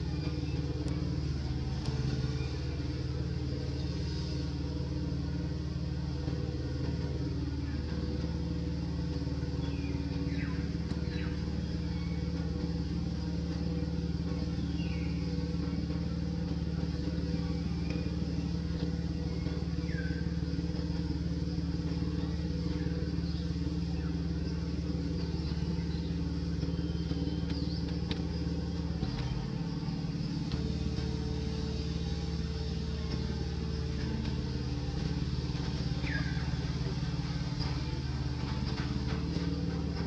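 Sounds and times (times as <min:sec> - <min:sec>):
engine humming: 0:00.0 - 0:40.0.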